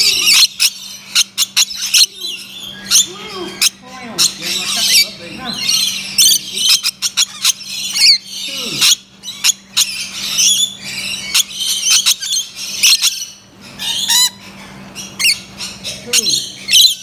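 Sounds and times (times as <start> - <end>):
parrots screeching and chattering: 0.0 - 17.0.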